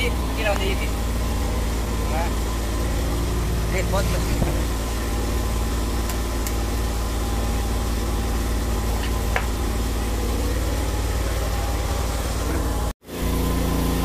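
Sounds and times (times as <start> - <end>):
portable generator engine droning: 0.0 - 14.0.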